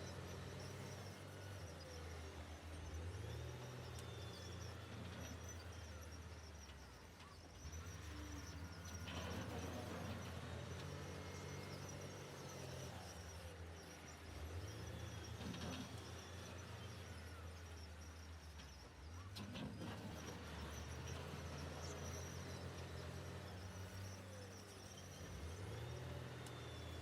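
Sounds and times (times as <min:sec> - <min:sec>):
diesel engines droning: 0:00.0 - 0:27.0.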